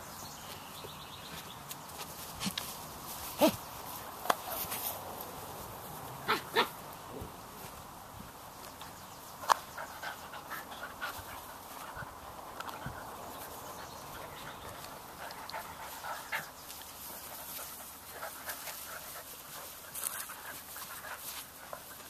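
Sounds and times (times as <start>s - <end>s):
puppies play-fighting noises: 0.9s - 7.4s, 8.7s - 22.0s.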